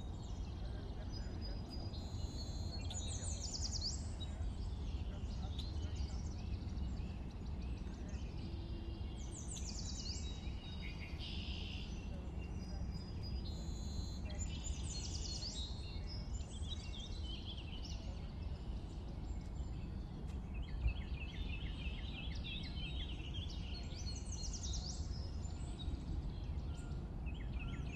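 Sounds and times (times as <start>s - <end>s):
wind rumble on microphone: 0.0s - 11.2s, 11.9s - 13.6s, 14.2s - 27.9s
small birds singing: 0.0s - 27.9s.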